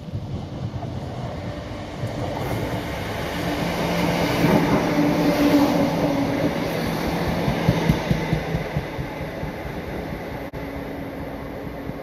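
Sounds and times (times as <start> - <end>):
passenger train passing: 0.0 - 12.0.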